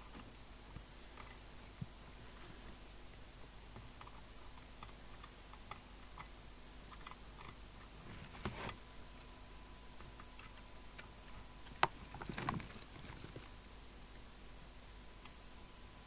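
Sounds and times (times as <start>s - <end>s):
rustle: 0.0s - 9.3s, 9.9s - 15.4s.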